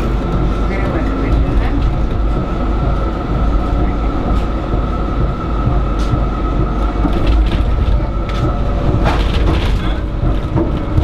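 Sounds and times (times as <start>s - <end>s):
constant whine: 0.0s - 11.0s
tram wheels rumbling on rails: 0.0s - 11.0s.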